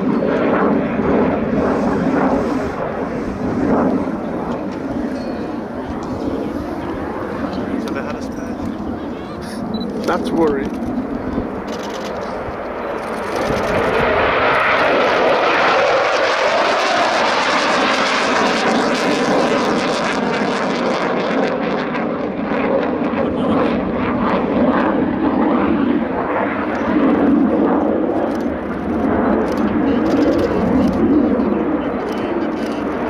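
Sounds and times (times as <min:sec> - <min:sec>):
military jet engine roar: 0:00.0 - 0:33.0.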